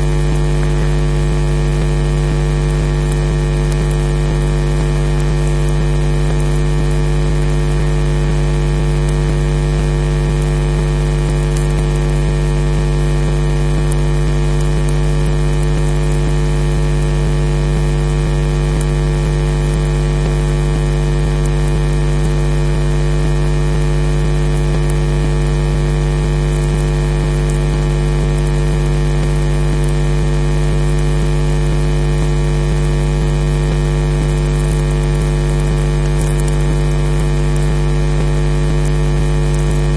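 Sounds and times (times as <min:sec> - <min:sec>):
electrical mains hum and buzz: 0:00.0 - 0:39.9.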